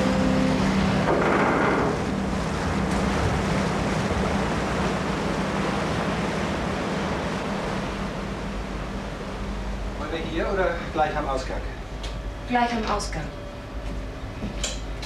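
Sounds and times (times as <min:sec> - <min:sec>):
water rushing and churning: 0:00.0 - 0:13.2
ferry engine hum: 0:00.0 - 0:15.0.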